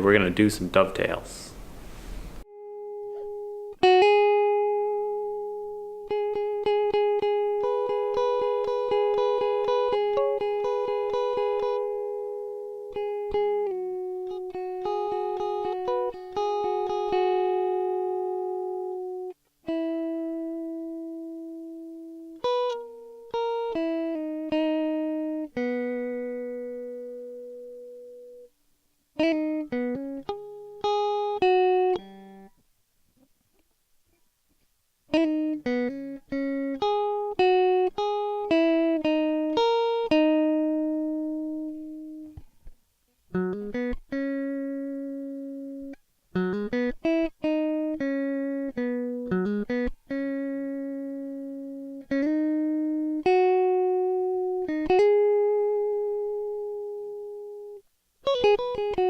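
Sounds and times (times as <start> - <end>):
solo guitar plucked notes: 2.4 - 28.6, 29.2 - 32.5, 35.1 - 59.0.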